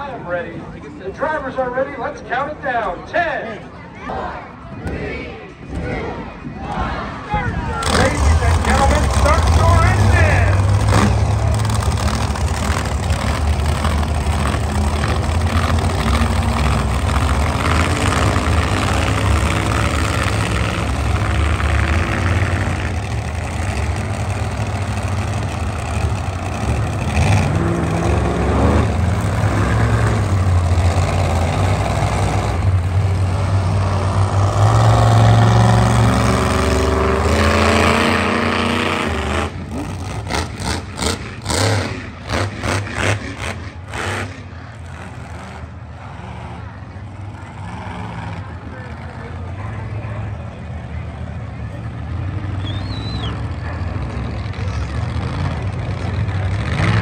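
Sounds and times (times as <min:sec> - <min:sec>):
low engine rumble: 0:00.0 - 0:57.0
monster truck engines revving: 0:00.0 - 0:57.0.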